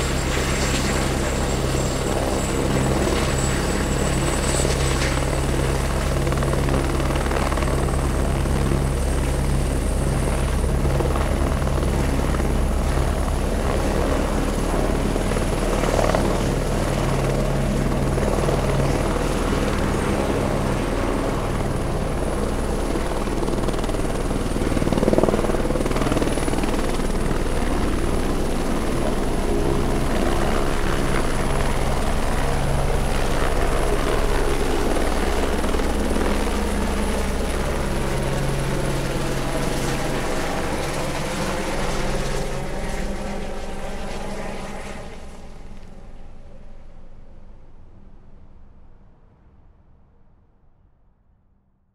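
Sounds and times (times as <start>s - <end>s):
helicopter rotor beat: 0.0s - 46.8s
helicopter high whine: 0.0s - 48.6s.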